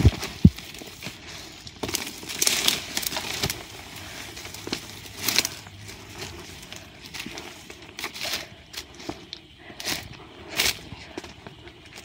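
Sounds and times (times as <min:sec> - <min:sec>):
footsteps crunching through dry leaves: 0:00.0 - 0:12.0.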